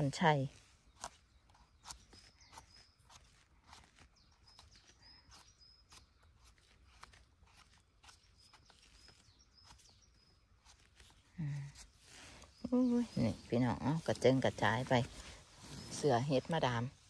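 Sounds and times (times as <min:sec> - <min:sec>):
faint forest background: 0:00.0 - 0:17.0.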